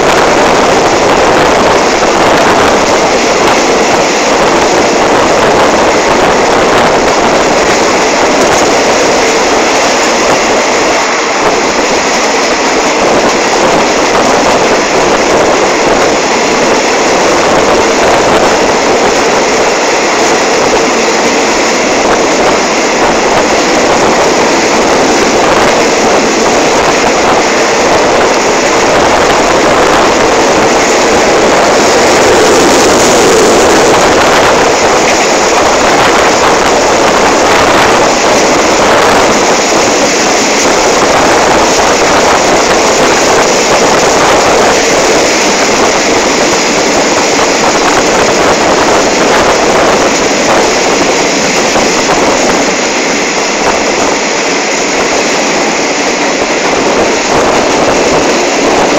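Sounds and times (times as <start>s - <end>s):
train running at speed: 0.0s - 58.9s.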